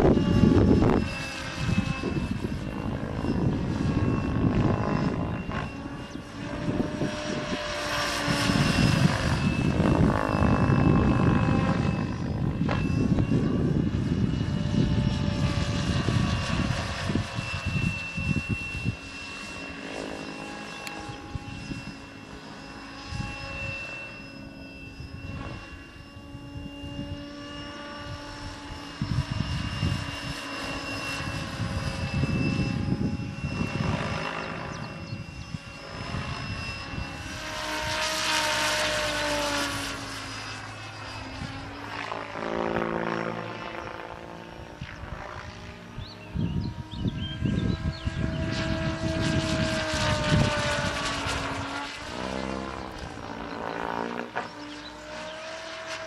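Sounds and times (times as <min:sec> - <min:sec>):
model helicopter drive whining: 0:00.0 - 0:56.0.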